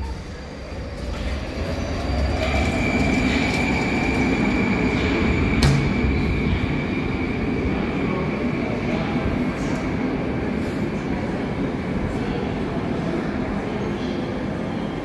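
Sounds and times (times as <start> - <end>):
metro train humming: 0.0 - 15.0.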